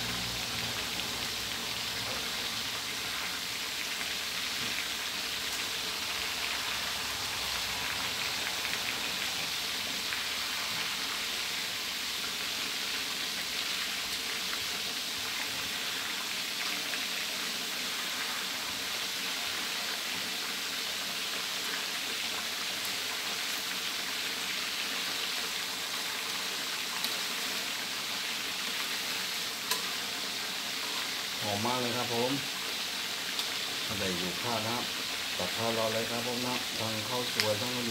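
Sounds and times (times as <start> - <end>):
fish deep-frying in oil: 0.0 - 37.9.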